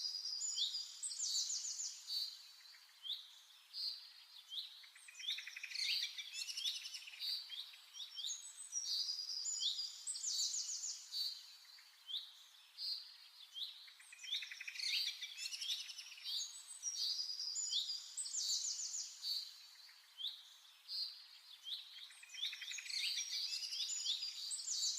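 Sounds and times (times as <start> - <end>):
birdsong chirps and trills: 0.0 - 24.9.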